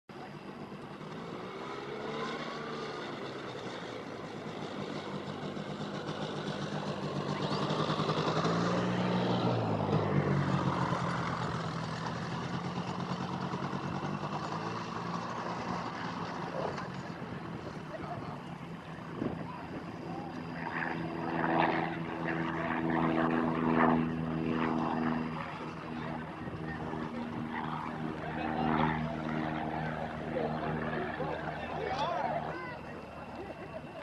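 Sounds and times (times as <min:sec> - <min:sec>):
propeller aircraft engine droning: 0:00.1 - 0:34.0.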